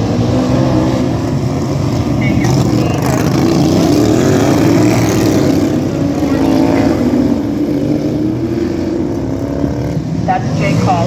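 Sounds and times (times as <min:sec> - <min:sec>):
small engines revving: 0:00.0 - 0:11.0.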